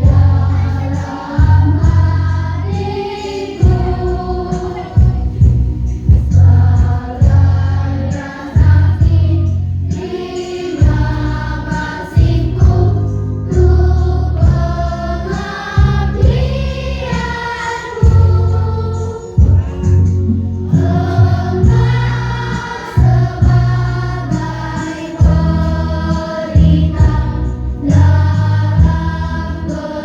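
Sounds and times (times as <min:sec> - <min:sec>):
choir singing: 0:00.0 - 0:30.0
instrumental accompaniment: 0:00.0 - 0:30.0.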